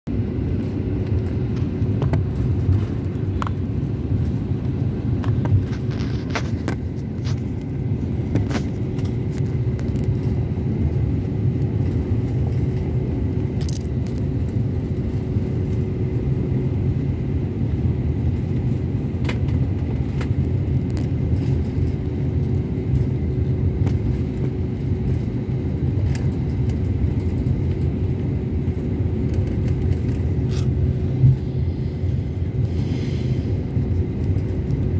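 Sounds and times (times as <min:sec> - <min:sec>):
aircraft engines rumbling: 0:00.1 - 0:34.9
constant hum: 0:00.1 - 0:34.9.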